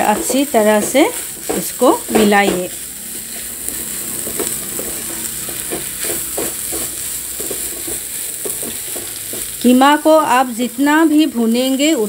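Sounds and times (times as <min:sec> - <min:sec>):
spatula scraping a pan: 0:00.0 - 0:09.7
meat sizzling in a frying pan: 0:00.0 - 0:12.0.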